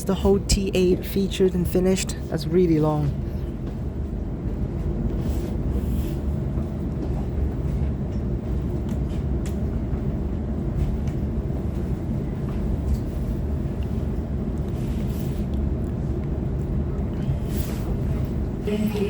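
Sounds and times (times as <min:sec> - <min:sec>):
faint hum: 0:00.0 - 0:19.0
train rumbling: 0:00.0 - 0:19.0.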